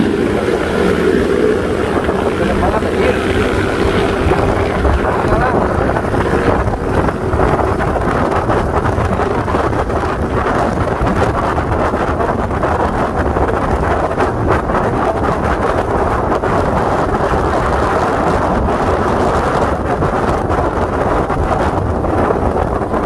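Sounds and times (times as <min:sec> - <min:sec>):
scooter engine: 0:00.0 - 0:21.2
road noise: 0:00.0 - 0:23.0
wind buffeting microphone: 0:00.0 - 0:23.0.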